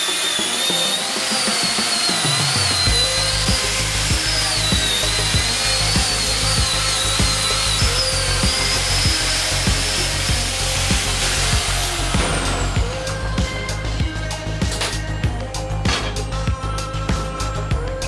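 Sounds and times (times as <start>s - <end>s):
angle grinder whining on steel: 0.0s - 18.0s
background music with steady beat: 0.0s - 18.0s.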